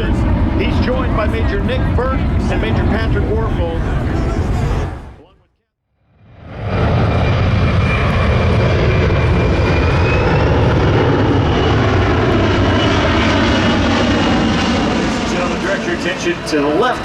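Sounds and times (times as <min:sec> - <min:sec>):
jet engines rumbling and whining: 0:00.0 - 0:05.3, 0:06.2 - 0:17.0.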